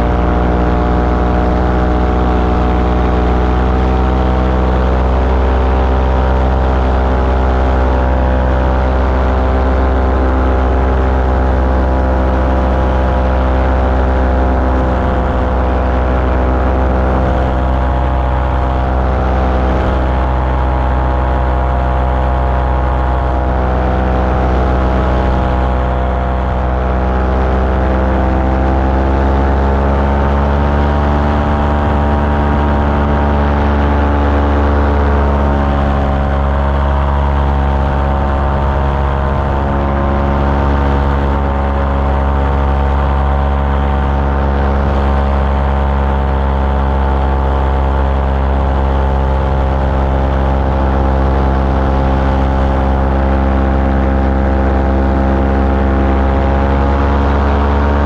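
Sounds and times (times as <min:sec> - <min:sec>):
small aircraft engine and propeller: 0:00.0 - 0:58.0.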